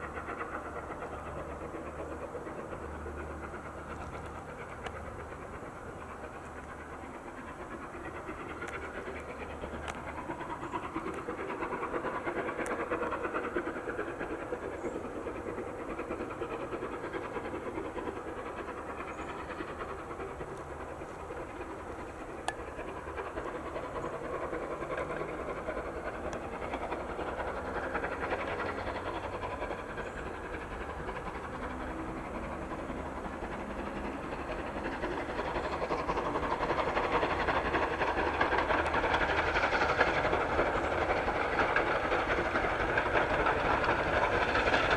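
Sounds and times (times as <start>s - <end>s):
steam locomotive exhaust: 0.0s - 44.9s.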